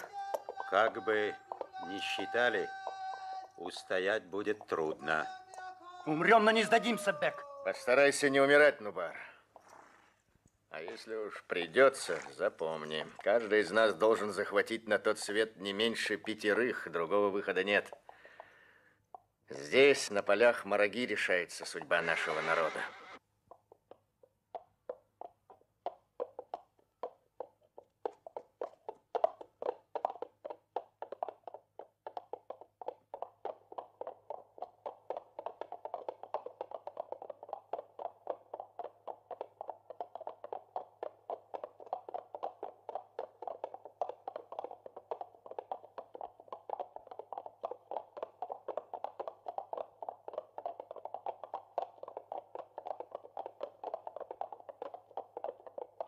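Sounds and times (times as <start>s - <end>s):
quick taps pattering: 0.0s - 6.0s, 10.4s - 22.2s, 23.2s - 56.0s.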